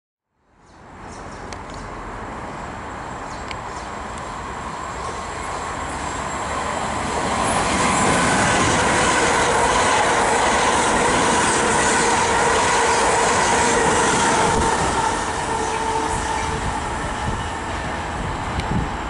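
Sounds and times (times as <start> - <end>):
electric train whine: 2.3 - 19.0
train wheels rushing on rail: 2.4 - 19.0.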